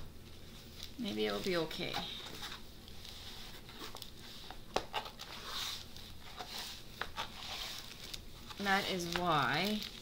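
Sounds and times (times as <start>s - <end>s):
paper rustling and crinkling: 0.3s - 10.0s.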